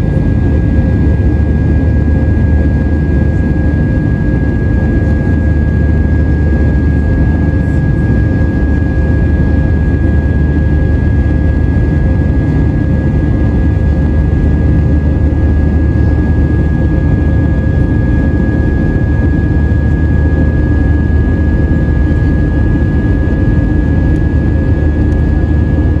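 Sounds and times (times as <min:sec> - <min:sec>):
high engine whine: 0:00.0 - 0:26.0
jet engine roar in cabin: 0:00.0 - 0:26.0.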